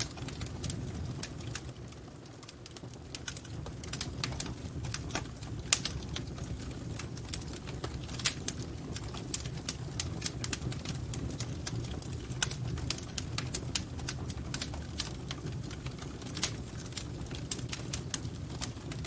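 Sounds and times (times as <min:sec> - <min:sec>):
low rumble of flames: 0:00.0 - 0:19.0
wood fire crackling: 0:00.0 - 0:19.0.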